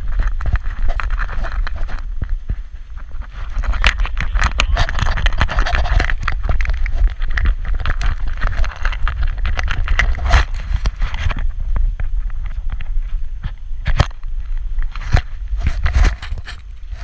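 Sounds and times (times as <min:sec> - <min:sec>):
microphone handling noise: 0:00.0 - 0:17.0
wind rumble on microphone: 0:00.0 - 0:17.0.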